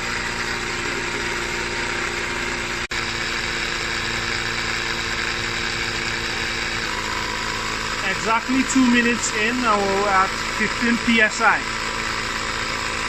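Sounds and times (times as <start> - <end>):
tire inflator motor humming: 0.0 - 13.0.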